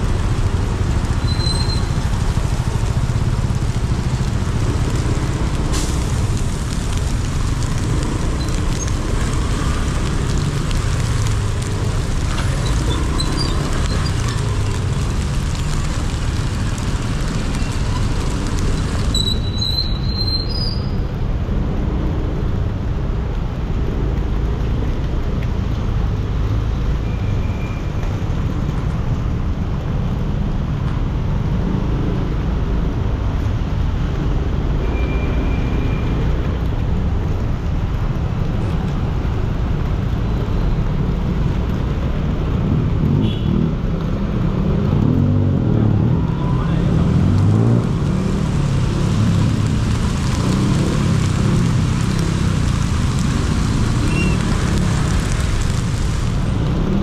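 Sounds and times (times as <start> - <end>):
rumble of traffic engines: 0.0 - 57.0.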